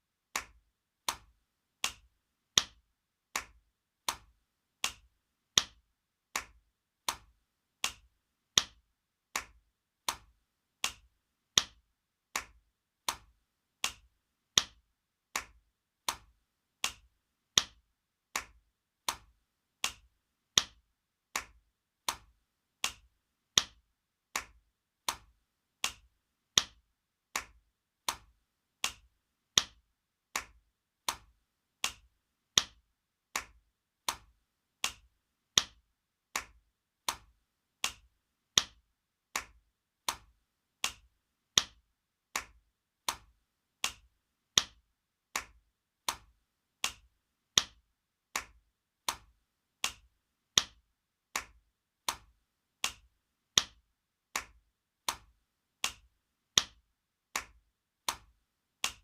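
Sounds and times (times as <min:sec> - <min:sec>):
hand slapping skin: 0:00.3 - 0:53.8, 0:54.4 - 0:56.8, 0:57.4 - 0:59.0.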